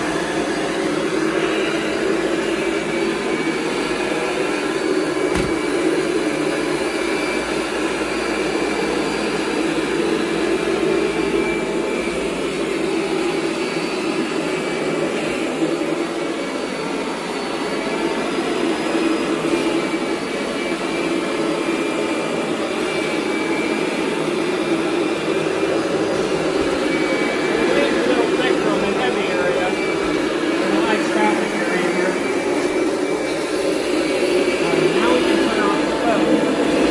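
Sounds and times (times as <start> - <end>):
vacuum cleaner motor running: 0.0 - 36.9.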